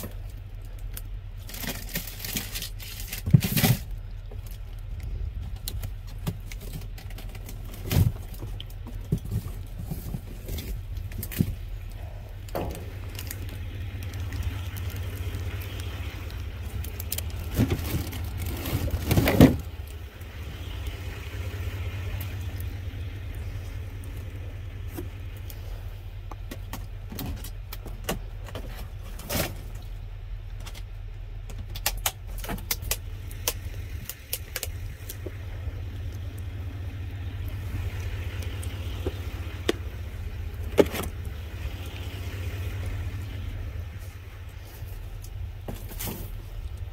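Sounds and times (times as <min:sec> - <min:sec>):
cardboard and plastic rustling: 0:00.0 - 0:20.2, 0:24.7 - 0:35.5, 0:38.4 - 0:42.0, 0:43.8 - 0:46.9
steady low hum: 0:00.0 - 0:46.9.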